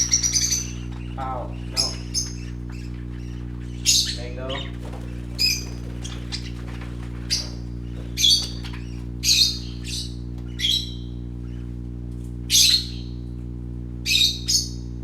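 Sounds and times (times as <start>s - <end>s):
parrots squawking: 0.0s - 11.7s, 12.5s - 13.2s, 14.1s - 14.8s
steady low hum: 0.0s - 15.0s.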